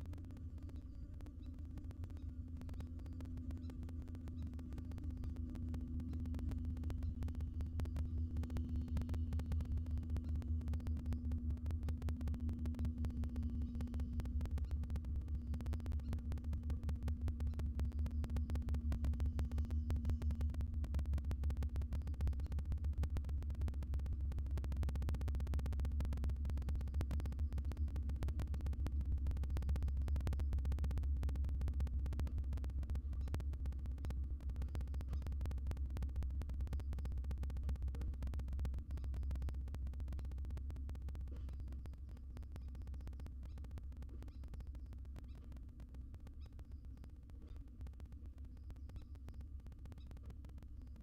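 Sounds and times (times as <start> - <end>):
faint steady tone: 0.0 - 51.0
fast crackle: 0.0 - 51.0
low electrical hum: 0.0 - 51.0.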